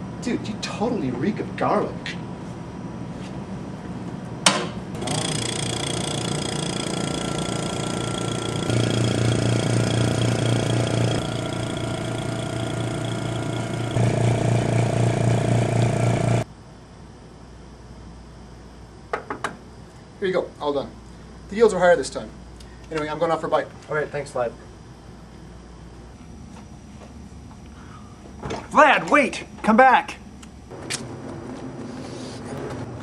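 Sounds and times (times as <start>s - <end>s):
lab machinery humming: 4.9s - 19.0s, 19.6s - 33.0s.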